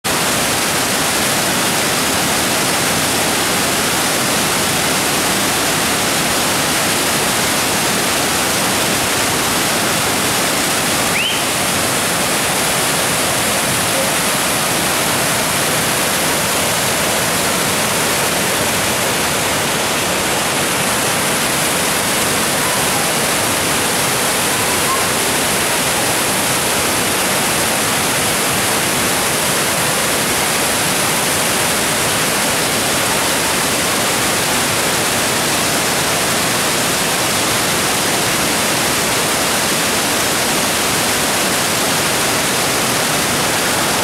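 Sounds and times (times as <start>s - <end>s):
waterfall rushing over boulders: 0.0s - 44.0s.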